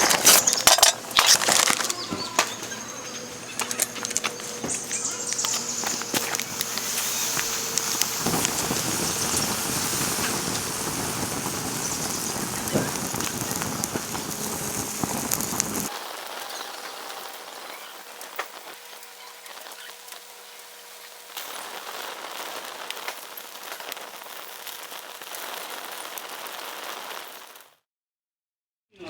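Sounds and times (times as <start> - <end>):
pot sizzling over fire: 0.0 - 27.8.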